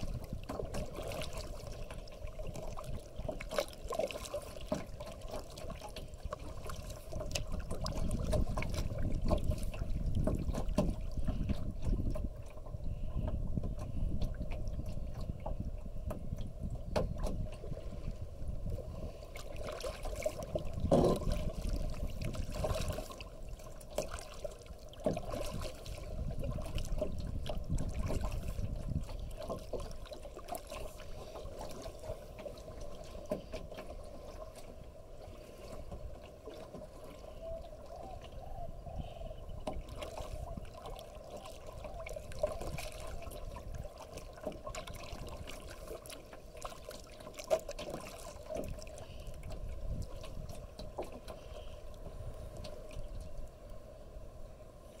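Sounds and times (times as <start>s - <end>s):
paddle splashes and drips: 0.0s - 55.0s
water moving along hull: 0.0s - 55.0s.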